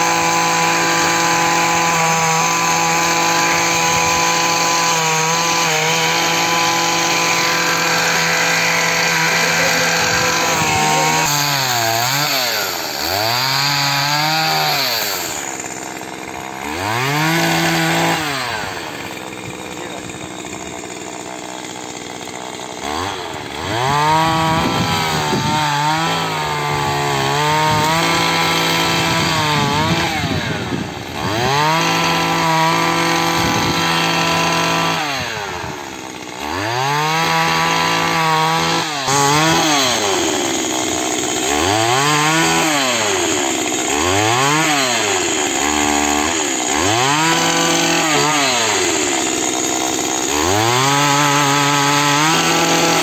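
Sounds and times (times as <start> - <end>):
pole pruner engine revving: 0.0 - 53.0.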